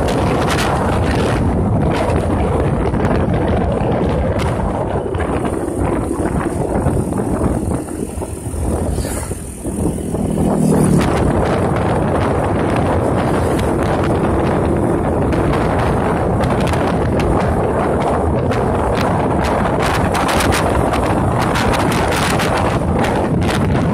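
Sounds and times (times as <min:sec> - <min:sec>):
motorcycle engine: 0:00.0 - 0:23.9
wind buffeting microphone: 0:00.0 - 0:23.9.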